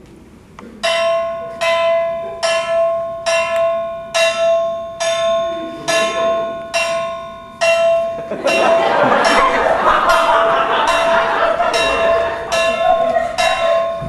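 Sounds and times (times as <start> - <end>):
bell strokes ringing: 0.8 - 14.0.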